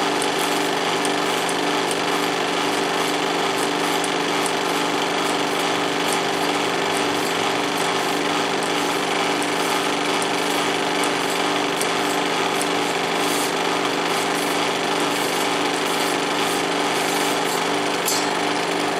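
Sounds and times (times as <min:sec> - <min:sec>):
film projector running: 0:00.0 - 0:18.9.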